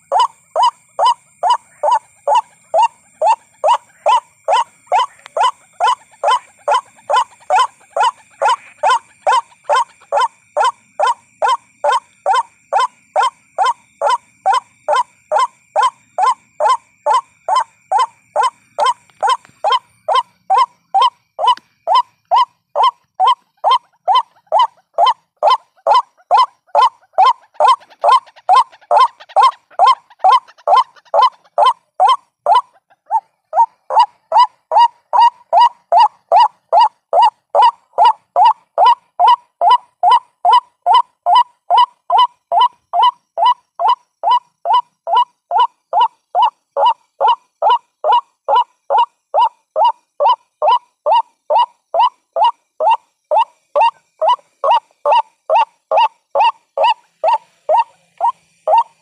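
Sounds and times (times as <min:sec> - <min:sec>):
waterhen calling harsh notes: 0:00.0 - 0:59.0.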